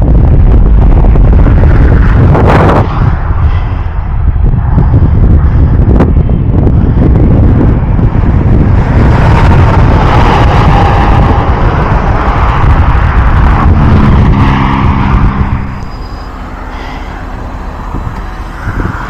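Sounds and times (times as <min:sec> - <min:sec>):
engine hum: 0:00.0 - 0:19.0
rumbling freeway traffic: 0:00.0 - 0:19.0
wind buffeting microphone: 0:00.0 - 0:19.0.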